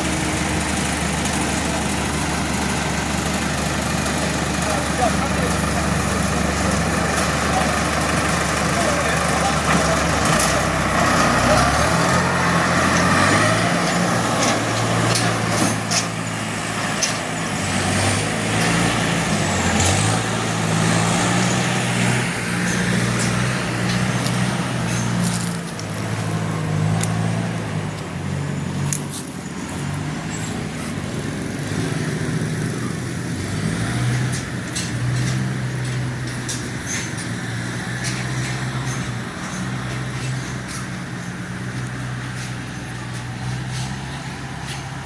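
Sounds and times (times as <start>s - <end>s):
heavy vehicle engine humming: 0.0s - 45.0s.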